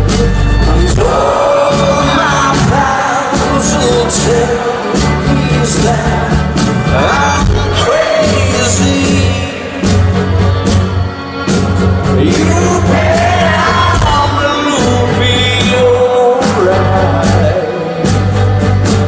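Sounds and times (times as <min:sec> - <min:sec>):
man singing: 0:00.0 - 0:10.2, 0:12.0 - 0:18.4
rock band playing ballad: 0:00.0 - 0:19.0.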